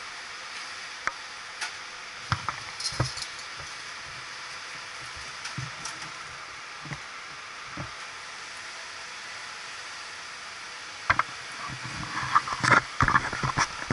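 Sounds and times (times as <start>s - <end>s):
wind hiss on microphone: 2.3s - 13.9s.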